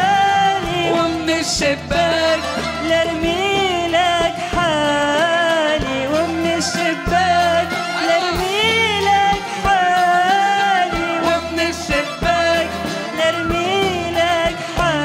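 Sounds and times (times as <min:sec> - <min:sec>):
bass line: 0:00.0 - 0:15.0
steady drum beat: 0:00.0 - 0:15.0
woman singing into a microphone: 0:00.0 - 0:15.0.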